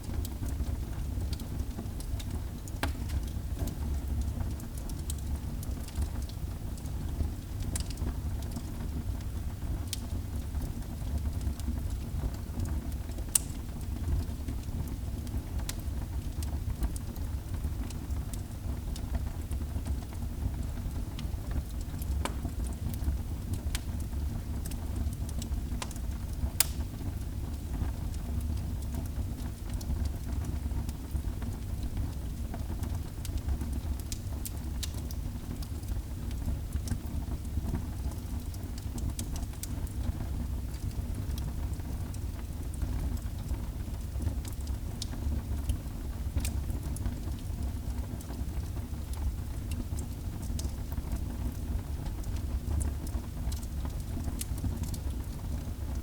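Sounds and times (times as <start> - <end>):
fire crackling and popping: 0.1 - 8.9, 12.6 - 56.0.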